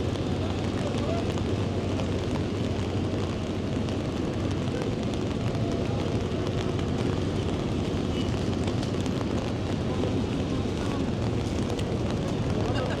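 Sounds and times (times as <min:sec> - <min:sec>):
city street noise: 0:00.0 - 0:13.0.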